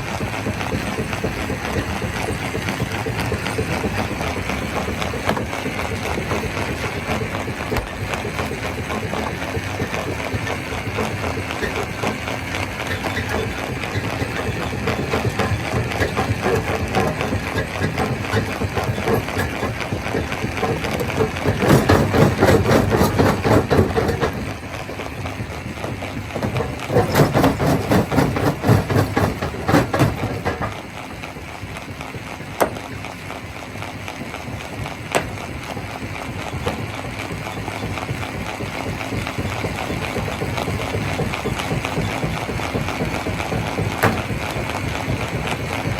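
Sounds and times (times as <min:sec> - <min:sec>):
machine hum: 0:00.0 - 0:45.9
rock crusher rumbling: 0:00.0 - 0:45.9.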